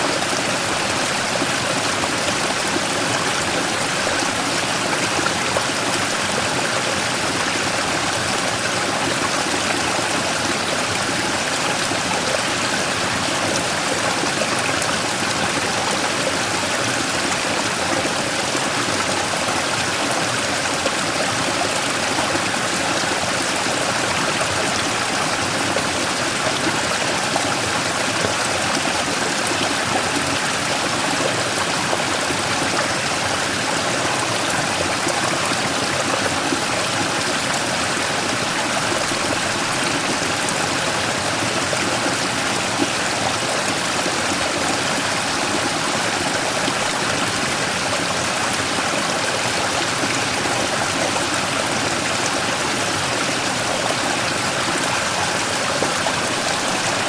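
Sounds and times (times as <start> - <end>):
stream flowing over rock: 0.0 - 57.0.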